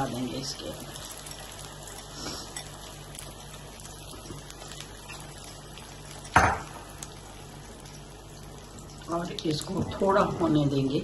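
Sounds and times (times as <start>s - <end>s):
eggs sizzling in a frying pan: 0.0s - 11.0s.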